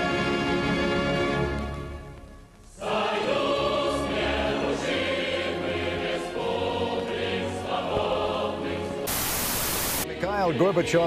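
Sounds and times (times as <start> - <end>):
choir singing with music: 0.0 - 11.0.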